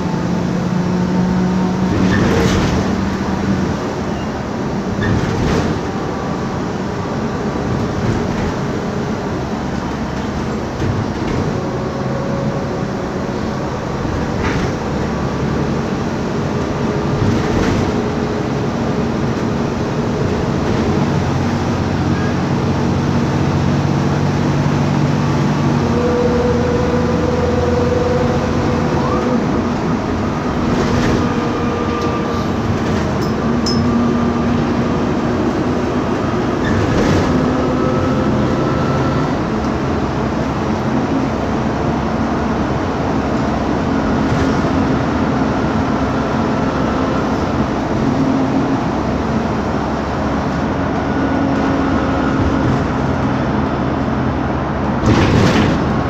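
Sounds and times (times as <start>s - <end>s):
bus engine running: 0.0s - 56.0s
road rumble: 0.0s - 56.0s.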